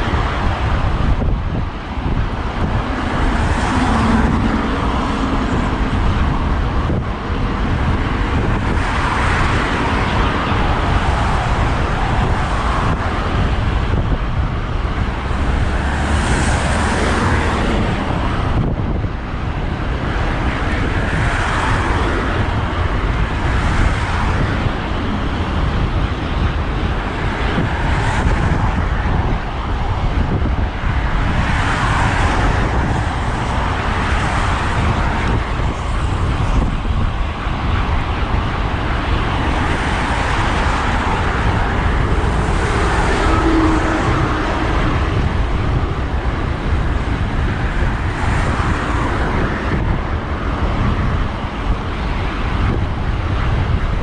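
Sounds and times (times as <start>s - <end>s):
cars passing: 0.0s - 54.0s
wind rumble on microphone: 0.0s - 54.0s.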